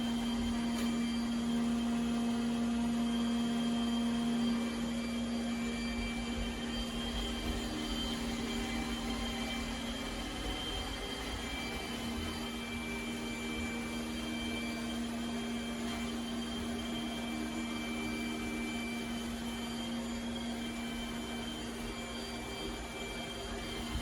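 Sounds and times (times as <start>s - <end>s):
robot vacuum running: 0.0s - 24.0s.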